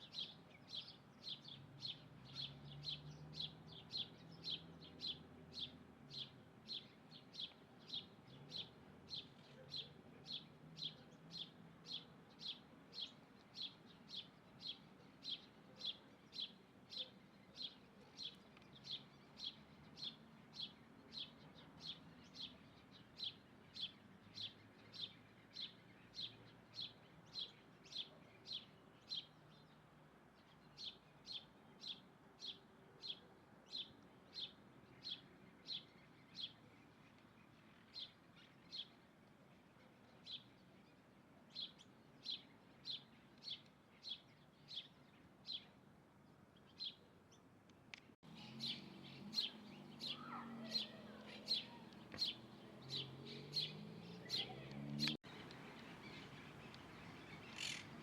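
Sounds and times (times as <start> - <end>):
bird chirping: 0.0 - 45.8, 46.6 - 58.0.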